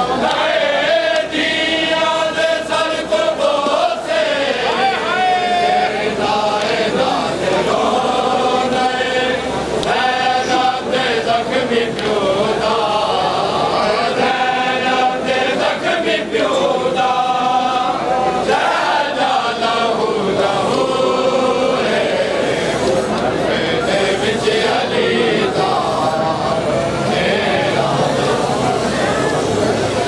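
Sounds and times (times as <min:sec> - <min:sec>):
men chanting a lament: 0:00.0 - 0:30.0.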